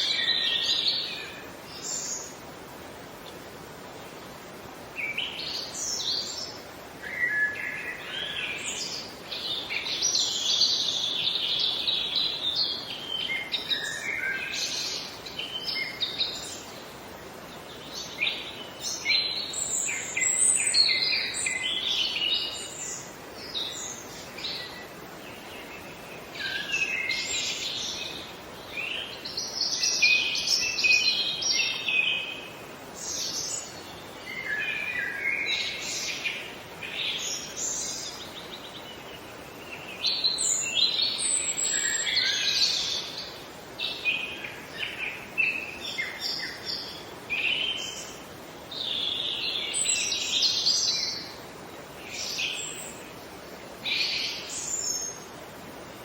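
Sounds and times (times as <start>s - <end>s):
songbirds singing: 0.0s - 56.0s
steady background hiss: 0.0s - 56.0s.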